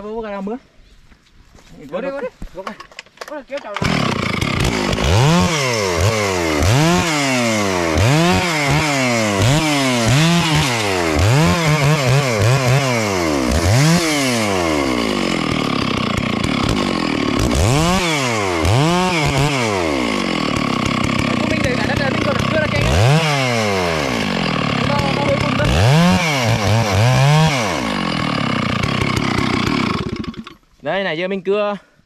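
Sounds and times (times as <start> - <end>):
chainsaw revving: 3.6 - 30.7.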